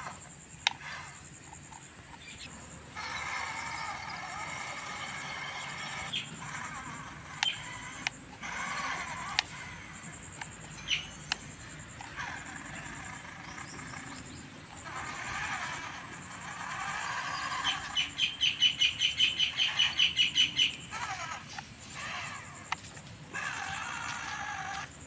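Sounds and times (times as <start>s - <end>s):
fast high sharp chirps: 0.0s - 22.7s
birds chirping and calling: 0.0s - 25.0s
sharp clicks: 0.1s - 25.0s.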